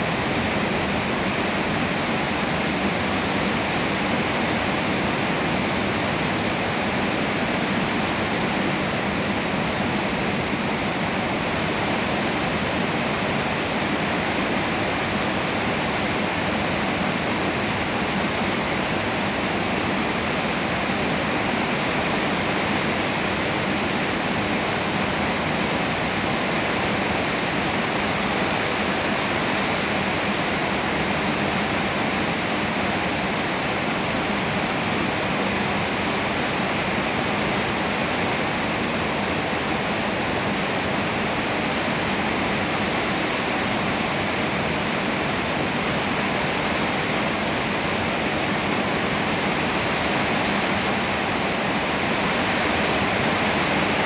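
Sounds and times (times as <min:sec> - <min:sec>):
rain on leafy trees: 0:00.0 - 0:54.0.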